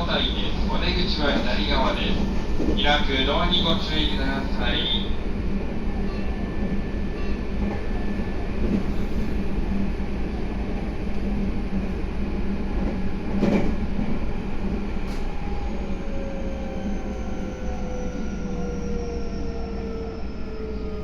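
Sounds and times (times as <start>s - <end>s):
low train hum: 0.0s - 21.0s
train wheels rumbling on rails: 0.0s - 21.0s.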